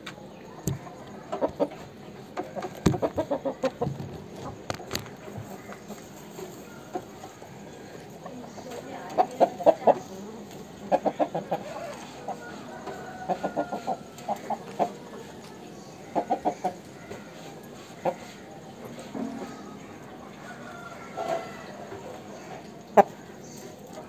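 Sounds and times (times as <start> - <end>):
rooster clucking: 0.7 - 23.4.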